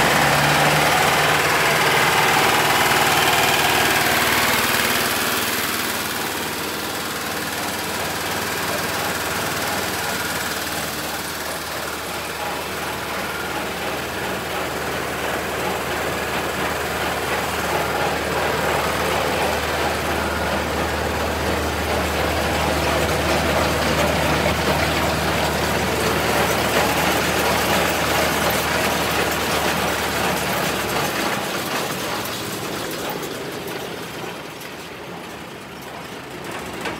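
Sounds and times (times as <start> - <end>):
diesel engine drone: 0.0 - 36.9.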